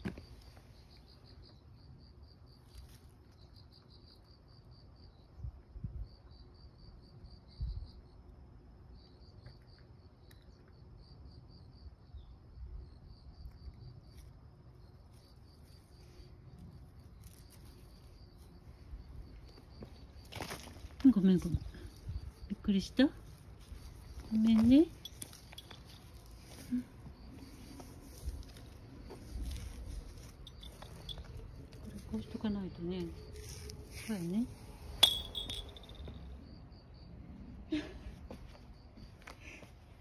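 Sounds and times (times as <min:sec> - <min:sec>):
cricket chirping: 0:00.0 - 0:40.0.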